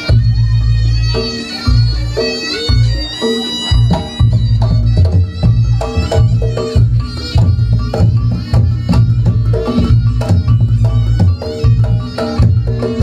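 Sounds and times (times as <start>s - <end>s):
hand drums beating: 0.0s - 13.0s
wavering melody line: 0.0s - 13.0s.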